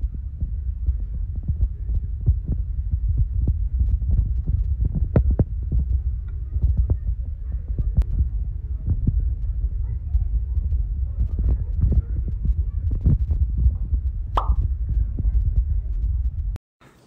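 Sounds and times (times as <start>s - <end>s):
low rumbling hum: 0.0s - 16.6s.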